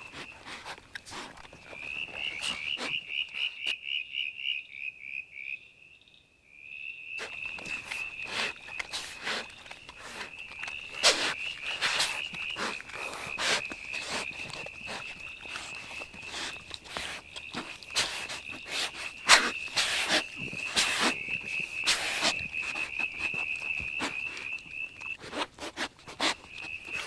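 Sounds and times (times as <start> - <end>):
animal chewing and crunching carcass: 0.0 - 3.8, 7.2 - 27.0.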